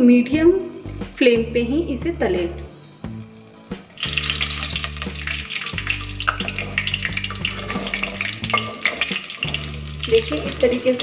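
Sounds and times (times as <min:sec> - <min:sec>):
deep-frying crackling sizzle: 0:00.0 - 0:11.0.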